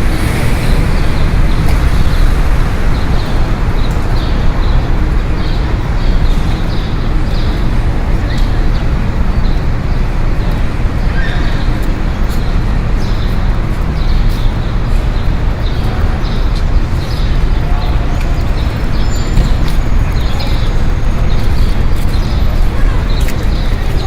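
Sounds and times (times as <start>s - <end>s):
indistinct voices: 0.0s - 24.0s
passing traffic rumble: 0.0s - 24.0s.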